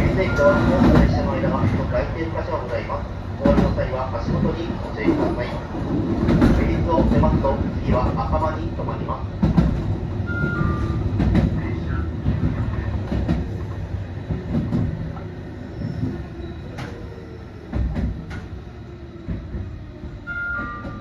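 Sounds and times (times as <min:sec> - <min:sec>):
train rumble: 0:00.0 - 0:21.0
wheels clicking over rail joints: 0:00.0 - 0:21.0.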